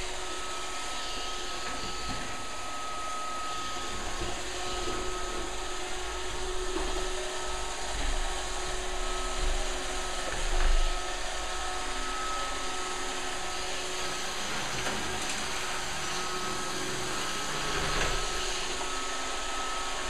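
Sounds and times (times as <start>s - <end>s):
robot vacuum running: 0.0s - 20.0s.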